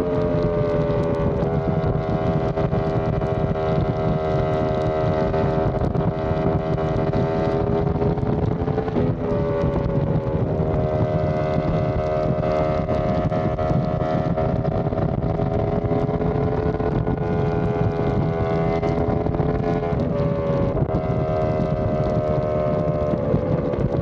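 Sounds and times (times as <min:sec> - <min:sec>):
motorcycle engine at speed: 0:00.0 - 0:24.0
wind rumbling on microphone: 0:00.0 - 0:24.0.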